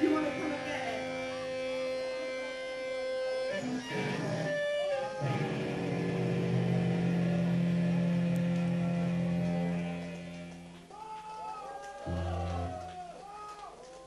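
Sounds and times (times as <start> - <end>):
electric guitar ringing notes: 0.0 - 10.8, 12.0 - 12.9.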